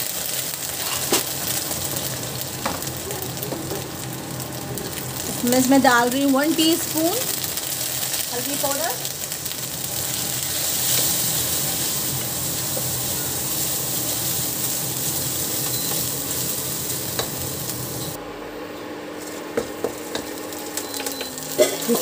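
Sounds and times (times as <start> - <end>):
food sizzling in hot oil: 0.0 - 18.2, 19.2 - 22.0.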